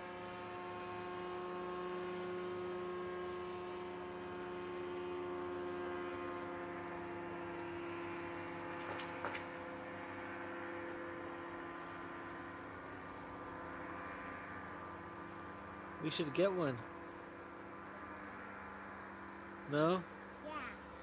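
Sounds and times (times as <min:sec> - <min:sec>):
paraglider engine and propeller drone: 0:00.0 - 0:21.0.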